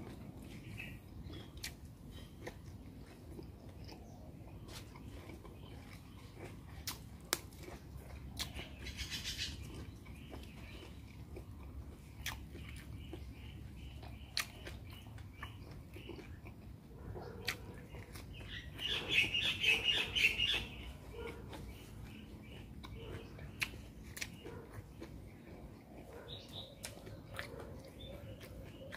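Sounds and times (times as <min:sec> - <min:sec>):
person chewing with smacks: 0:00.0 - 0:28.9.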